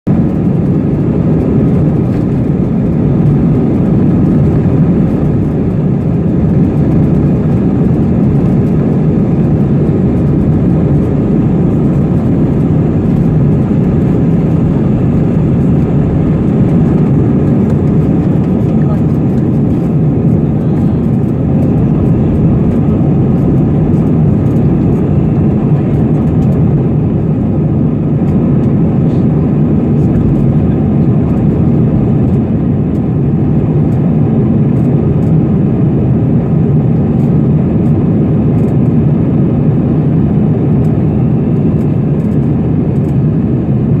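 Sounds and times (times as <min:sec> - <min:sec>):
jet engines low rumble: 0:00.0 - 0:44.0.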